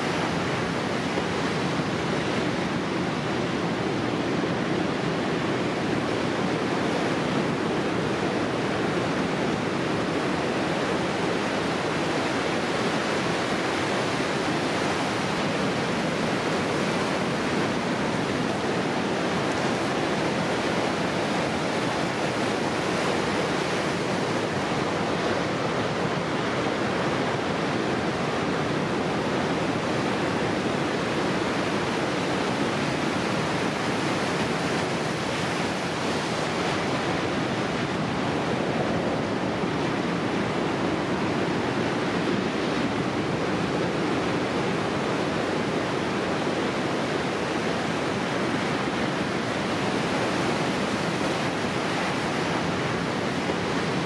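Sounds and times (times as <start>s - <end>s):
ocean surf breaking: 0.0s - 54.0s.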